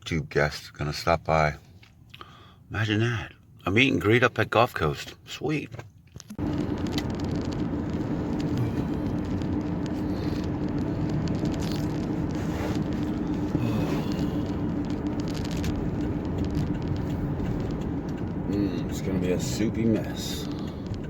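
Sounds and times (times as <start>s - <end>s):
truck engine and road noise: 0.0s - 21.0s.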